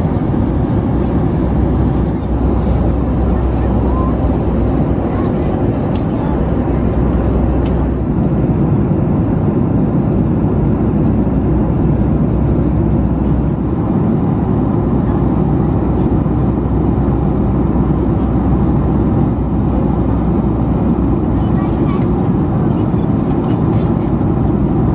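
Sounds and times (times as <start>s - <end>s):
airplane cabin noise: 0.0s - 24.9s.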